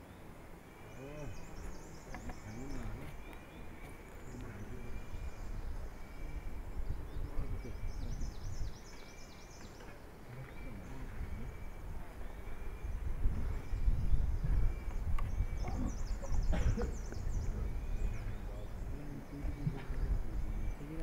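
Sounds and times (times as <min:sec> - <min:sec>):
faint distant voices: 0:00.0 - 0:21.0
small birds chirping: 0:00.0 - 0:21.0.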